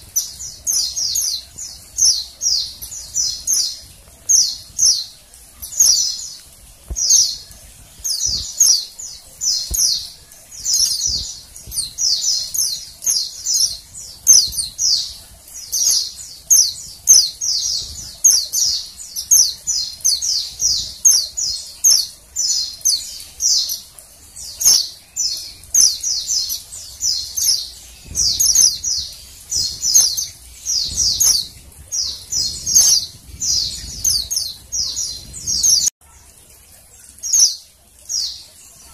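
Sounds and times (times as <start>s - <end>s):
bird high chirps: 0.0s - 35.9s.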